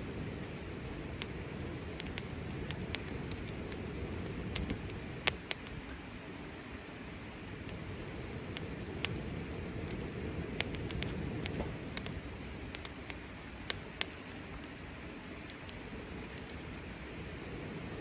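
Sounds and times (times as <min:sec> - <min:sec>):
campfire burning: 0:00.0 - 0:18.0
wood crackling and popping: 0:00.0 - 0:18.0.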